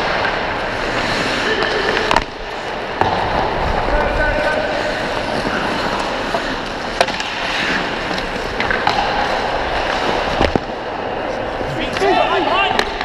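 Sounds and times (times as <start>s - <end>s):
skates scraping on ice: 0.0s - 13.0s.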